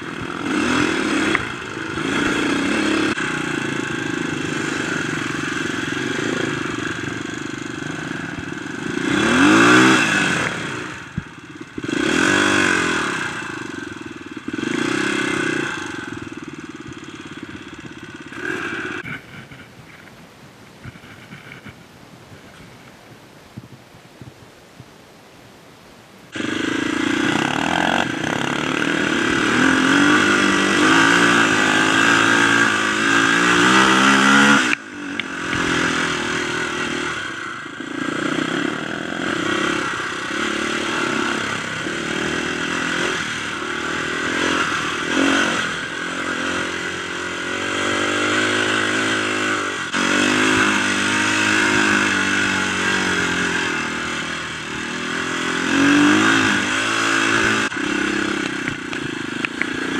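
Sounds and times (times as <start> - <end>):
dirt bike engine revving: 0.0 - 19.7, 26.3 - 59.9.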